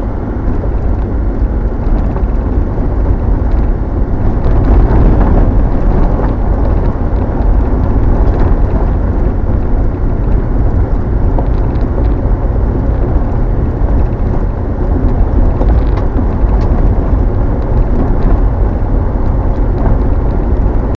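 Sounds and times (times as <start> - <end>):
tyre and road rumble: 0.0 - 21.0.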